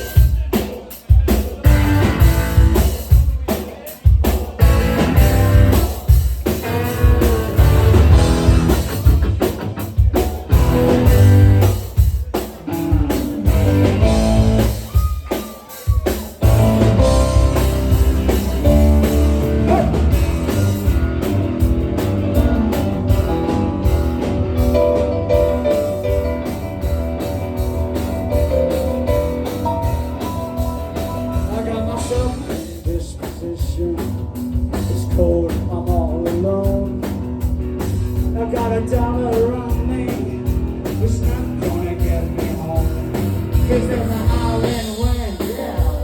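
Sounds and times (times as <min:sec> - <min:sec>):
drum kit: 0:00.0 - 0:46.0
guitar: 0:00.0 - 0:46.0.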